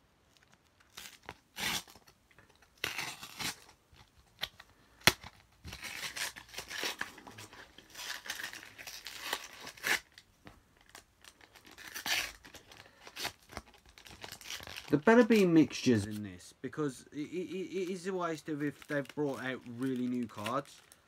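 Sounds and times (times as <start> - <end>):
wrapper crinkling: 0.3 - 16.4, 17.4 - 21.0
foil wrapper tearing: 0.4 - 10.2, 10.8 - 16.3, 17.8 - 21.0.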